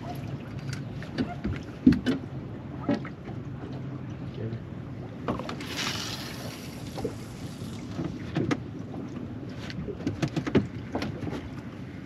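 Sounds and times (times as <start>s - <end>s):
knocks and clunks on boat: 0.0s - 5.9s, 6.8s - 12.0s
wind and water rumble: 0.0s - 12.0s.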